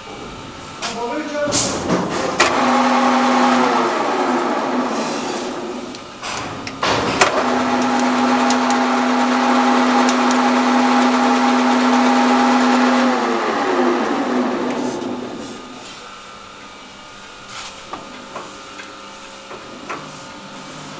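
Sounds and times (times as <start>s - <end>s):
lathe running with mechanical hum: 0.0s - 20.9s.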